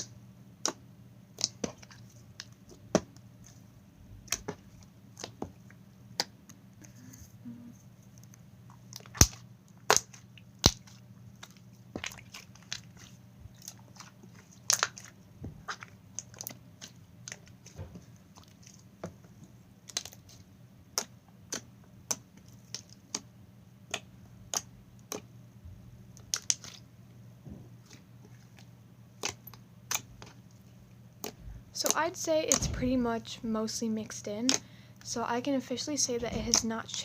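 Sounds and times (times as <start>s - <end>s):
slime squishing: 0.6s - 25.4s, 26.0s - 26.9s, 27.5s - 35.3s.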